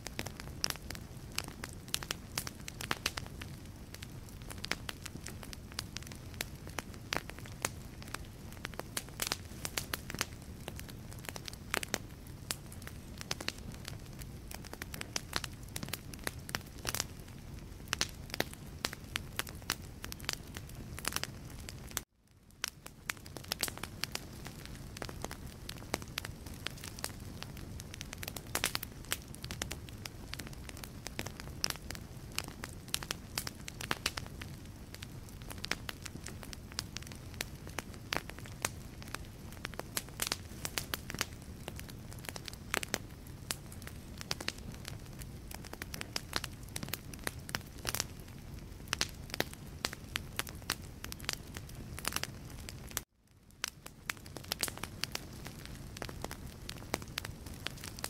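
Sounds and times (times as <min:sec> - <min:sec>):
logs crackling and popping: 0:00.0 - 0:58.0
low rush of flame: 0:00.0 - 0:58.0.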